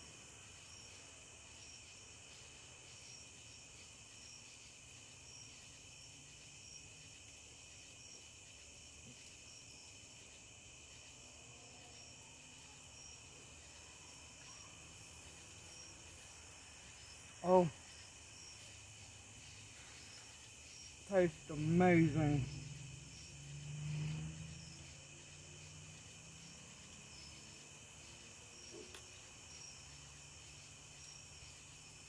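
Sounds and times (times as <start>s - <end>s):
faint insects chirping: 0.0s - 32.0s.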